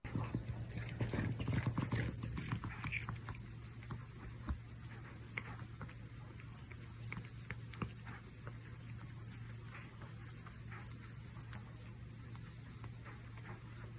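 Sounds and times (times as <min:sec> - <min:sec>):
cat licking and biting claws: 0:00.0 - 0:13.9
steady low hum: 0:00.0 - 0:13.9.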